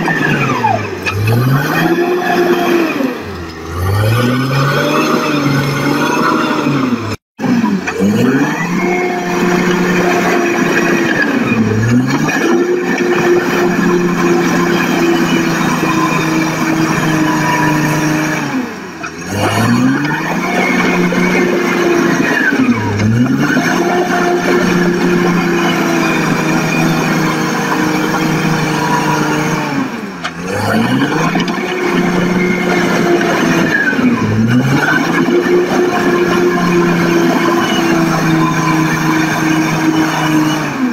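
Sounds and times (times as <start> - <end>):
diesel engine at high revs: 0.0 - 40.9.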